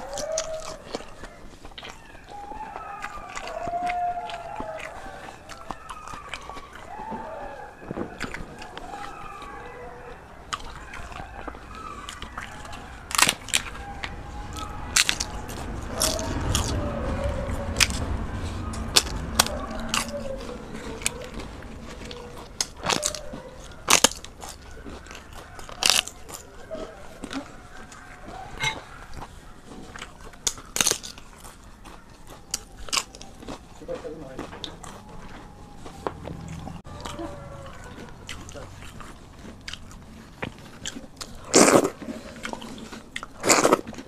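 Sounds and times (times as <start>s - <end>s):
chewing with lip smacks: 0.0s - 44.0s
crunching fried crisp bread: 0.0s - 44.0s.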